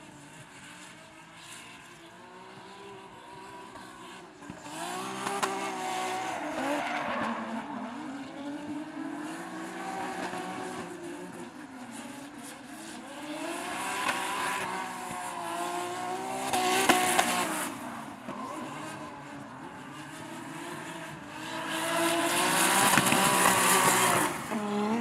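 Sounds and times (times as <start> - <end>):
car engines revving high: 0.0 - 25.0.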